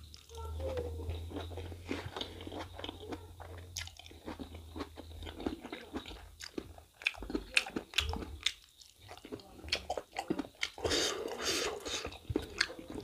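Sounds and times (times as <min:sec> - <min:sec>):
person chewing and crunching: 0:00.0 - 0:13.0.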